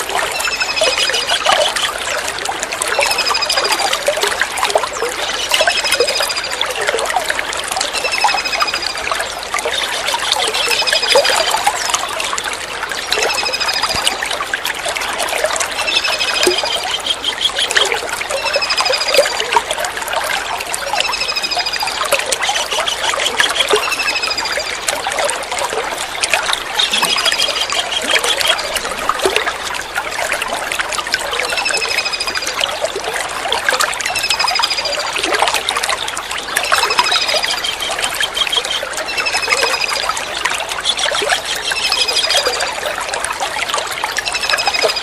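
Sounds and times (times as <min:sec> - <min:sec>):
trickle of running water: 0:00.0 - 0:45.0.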